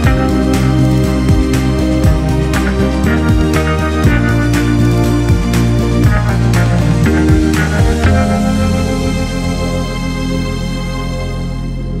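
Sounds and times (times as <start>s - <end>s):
pop instrumental beat hit: 0.0s - 11.3s.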